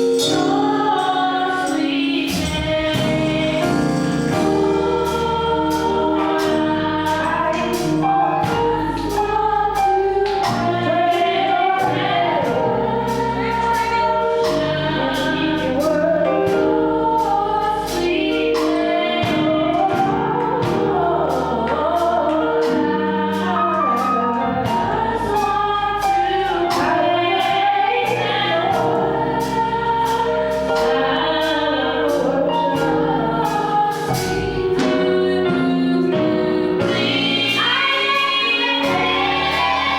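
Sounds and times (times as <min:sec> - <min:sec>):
band bass notes and beat: 0:00.0 - 0:39.9
gospel choir singing: 0:00.0 - 0:39.9.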